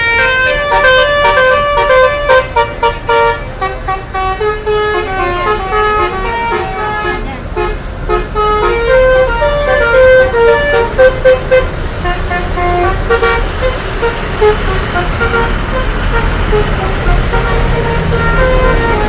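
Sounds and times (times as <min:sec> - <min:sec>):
multi-tone musical bus horn: 0:00.0 - 0:19.0.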